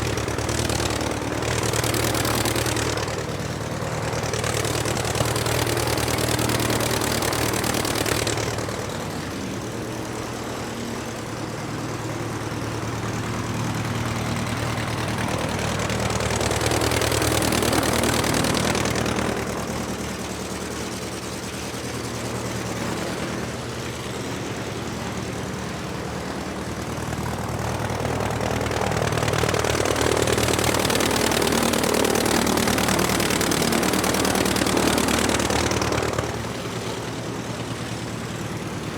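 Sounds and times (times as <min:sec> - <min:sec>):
aircraft engine humming: 0:00.0 - 0:38.9.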